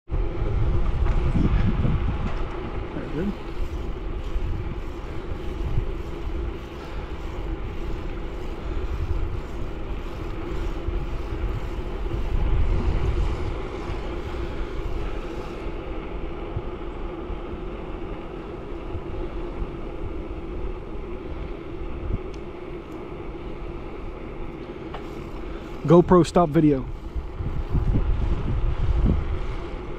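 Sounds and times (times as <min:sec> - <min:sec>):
steady low hum: 0:00.1 - 0:29.9
wind rushing over microphone: 0:00.1 - 0:29.9
tyres rolling on asphalt: 0:02.0 - 0:29.9.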